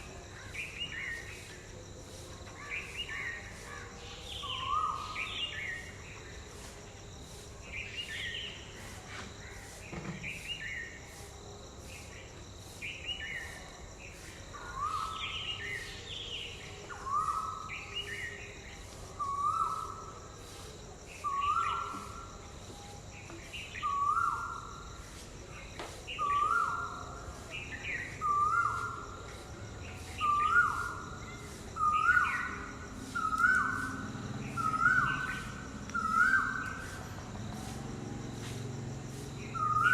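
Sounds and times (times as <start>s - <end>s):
insects ticking: 0.0s - 39.9s.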